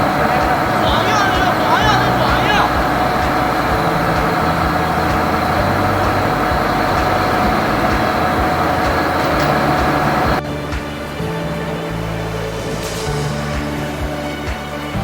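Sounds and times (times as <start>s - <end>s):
heavy machinery engine drone: 0.0s - 15.0s
knocks and clatter: 0.0s - 15.0s.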